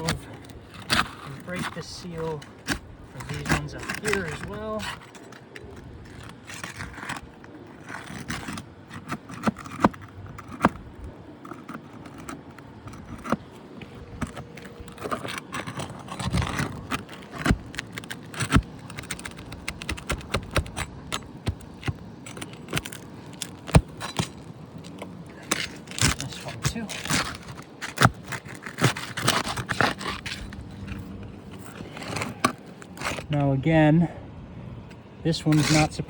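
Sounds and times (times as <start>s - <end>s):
shingles scraping and crackling: 0.0s - 33.7s, 34.8s - 36.0s.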